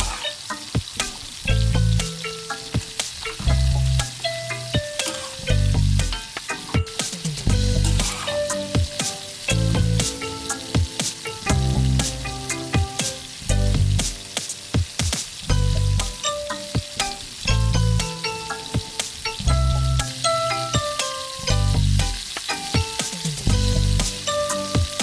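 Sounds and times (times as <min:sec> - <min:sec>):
background music with a beat: 0:00.0 - 0:25.0
food sizzling in a pan: 0:00.0 - 0:25.0.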